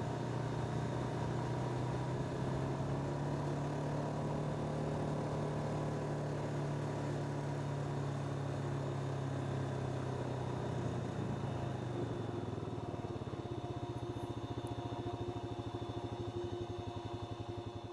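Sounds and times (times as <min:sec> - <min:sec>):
atv engine running: 0:00.0 - 0:17.9.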